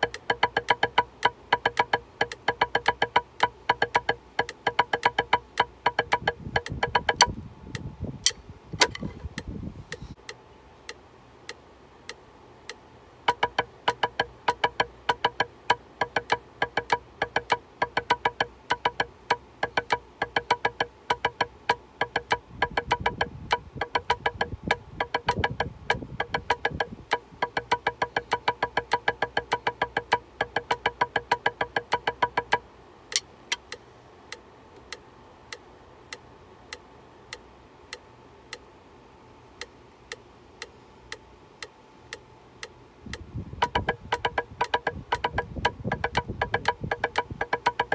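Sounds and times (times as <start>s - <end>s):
drumsticks on a practice pad: 0.0s - 38.7s, 39.6s - 47.9s
metronome clicking: 0.0s - 38.7s, 39.6s - 47.9s.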